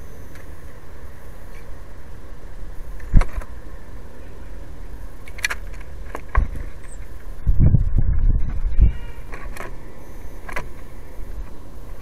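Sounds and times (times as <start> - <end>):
low rumble on microphone: 1.5 - 12.0.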